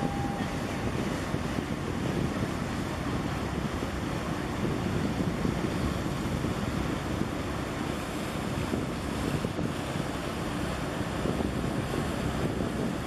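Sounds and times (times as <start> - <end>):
choppy sea water: 0.0 - 13.0
wind buffeting microphone: 0.0 - 13.0.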